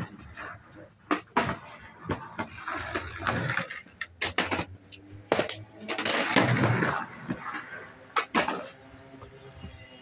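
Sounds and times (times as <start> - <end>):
skateboard clacking on concrete: 0.0 - 8.8
skateboard wheels rolling: 0.0 - 10.0.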